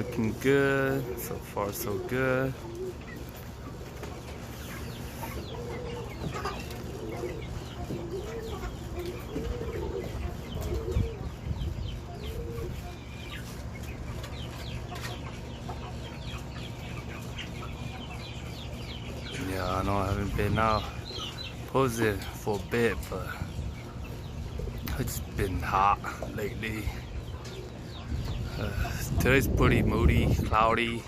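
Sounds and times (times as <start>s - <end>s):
low rising and falling bird calls: 2.0s - 29.2s.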